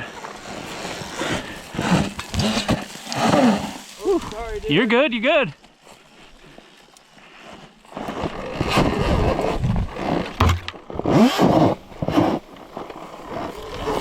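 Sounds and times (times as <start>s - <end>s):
tyre and trail noise: 0.0s - 14.0s.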